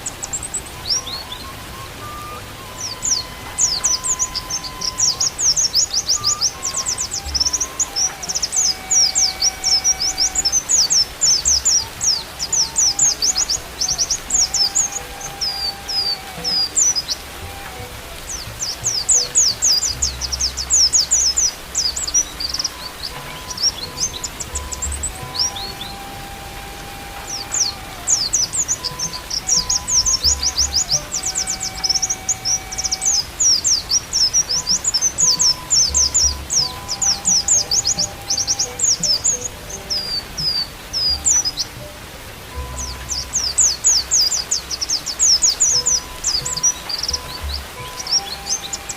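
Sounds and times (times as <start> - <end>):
bird chirping song: 0.0 - 48.9
faint held flute notes: 0.0 - 48.9.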